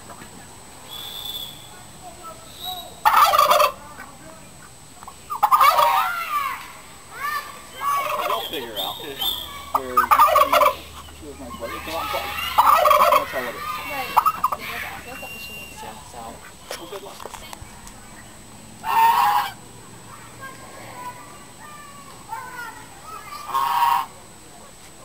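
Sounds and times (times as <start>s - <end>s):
turkey calling: 0.0s - 19.6s, 22.4s - 24.2s.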